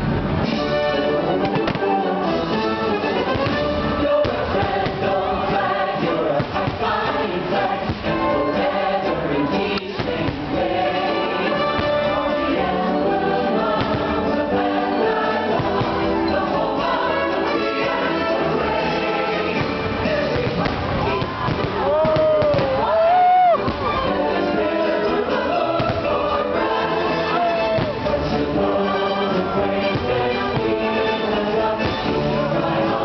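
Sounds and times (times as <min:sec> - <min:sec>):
choir singing with orchestra: 0:00.0 - 0:33.0.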